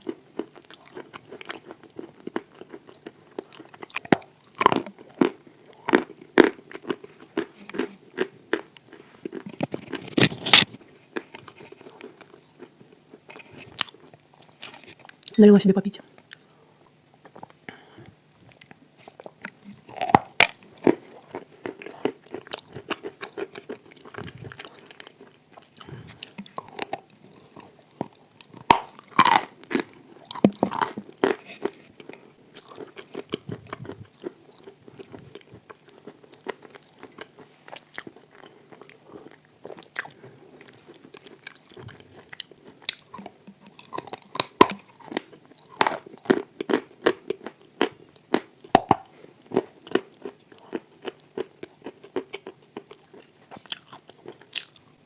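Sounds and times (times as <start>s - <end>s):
chewing and crunching chalk: 0.0s - 15.3s, 18.4s - 55.0s.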